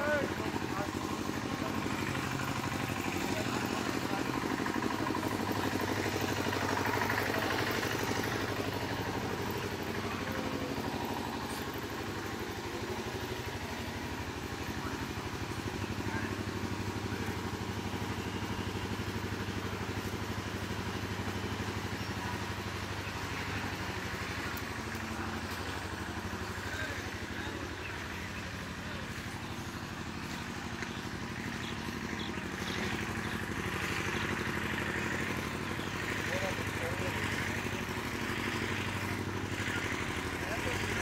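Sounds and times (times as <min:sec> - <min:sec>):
faint voices: 0:00.0 - 0:41.0
steady engine hum: 0:00.0 - 0:41.0.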